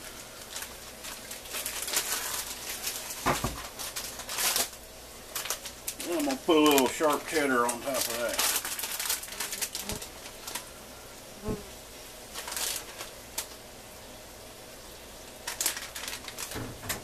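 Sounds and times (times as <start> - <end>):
plastic bag rustling: 0.0 - 10.8, 12.2 - 13.6, 15.2 - 17.0
faint steady hiss: 0.0 - 17.0.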